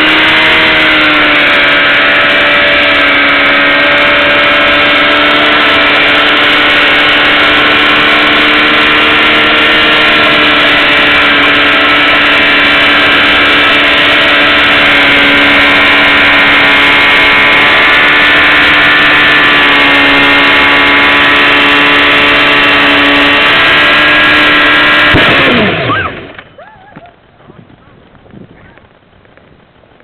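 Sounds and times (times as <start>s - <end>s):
motorcycle engine high revs: 0.0s - 26.5s
tire bursting crack: 0.0s - 30.0s
tire spinning on asphalt: 0.0s - 30.0s.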